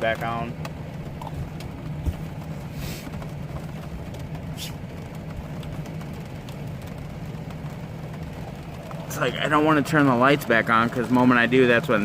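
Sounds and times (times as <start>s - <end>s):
rain on a vehicle roof: 0.0s - 12.0s
raindrop ticks: 0.0s - 12.0s.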